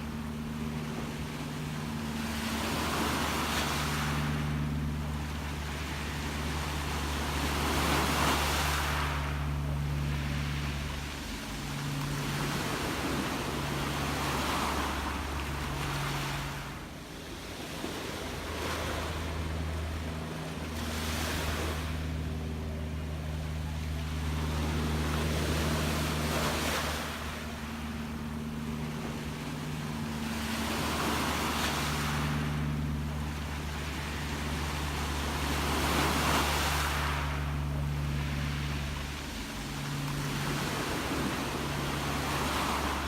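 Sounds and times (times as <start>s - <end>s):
gentle ocean waves: 0.0s - 43.0s
steady low hum: 0.0s - 43.0s.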